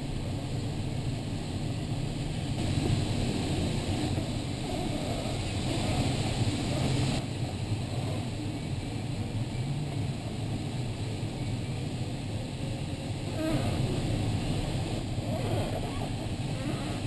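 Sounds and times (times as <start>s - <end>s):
airflow rushing around cockpit: 0.0s - 17.0s.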